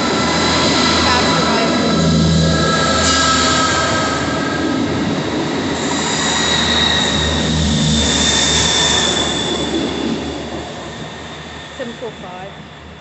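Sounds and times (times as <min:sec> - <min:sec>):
diesel train running: 0:00.0 - 0:13.0
high wheel squeal: 0:00.0 - 0:13.0.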